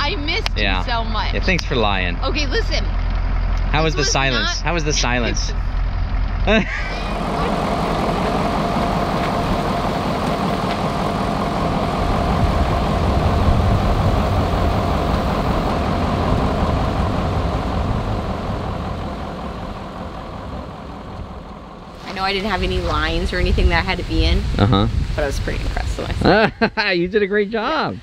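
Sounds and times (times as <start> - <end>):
vehicle engine idling: 0.0 - 26.4.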